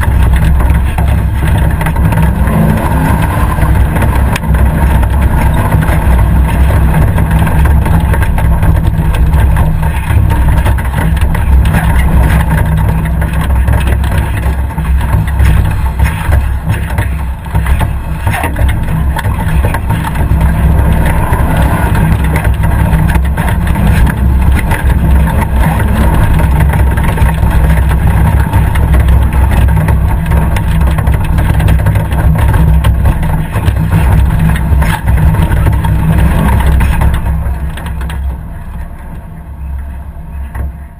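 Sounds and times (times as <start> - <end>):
car engine running under load: 0.0 - 40.9.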